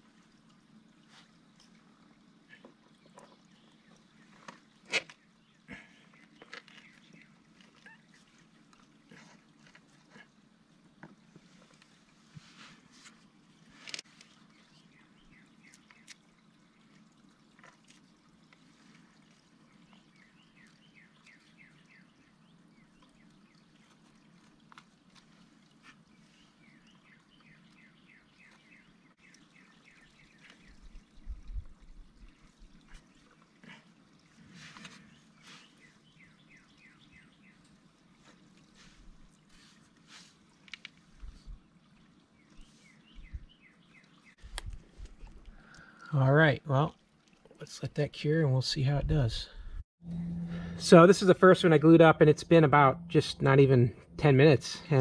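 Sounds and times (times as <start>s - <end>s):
faint birdsong chirps: 0.0s - 55.0s.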